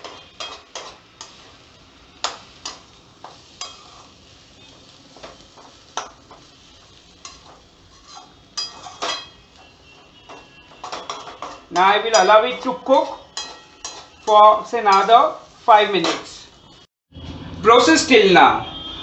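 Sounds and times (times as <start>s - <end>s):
metal spatula scraping a wok: 0.0s - 16.4s.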